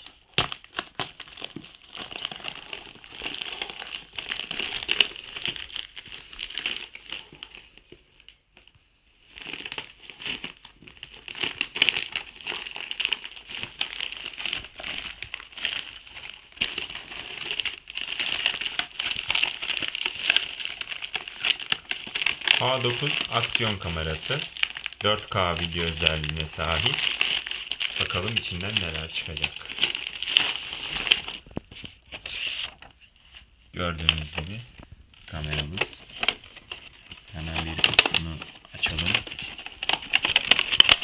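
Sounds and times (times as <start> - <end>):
plastic mailer bag crinkling: 0.0 - 33.1, 33.8 - 41.0.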